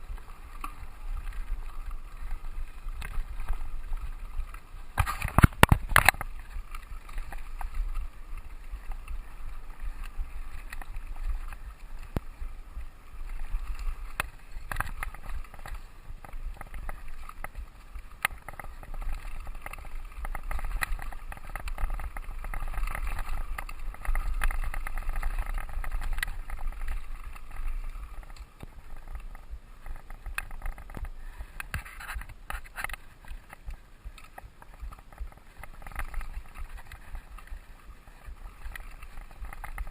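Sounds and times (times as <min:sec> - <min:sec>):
bike clicks and rattles: 0:00.0 - 0:39.9
bike tyre and frame noise: 0:00.0 - 0:39.9.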